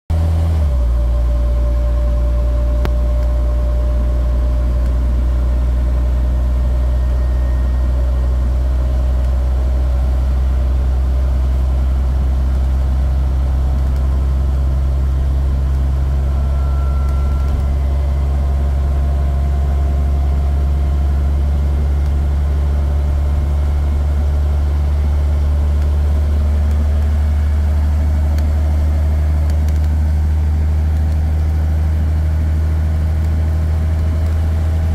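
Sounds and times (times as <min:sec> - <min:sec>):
bus diesel engine humming: 0:00.1 - 0:34.9.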